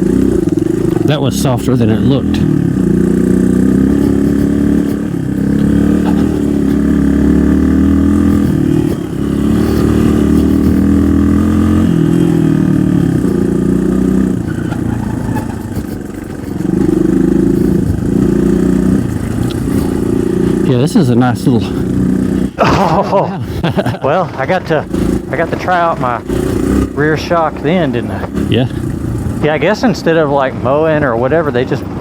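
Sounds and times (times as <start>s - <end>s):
motorcycle engine under load: 0.0s - 32.0s.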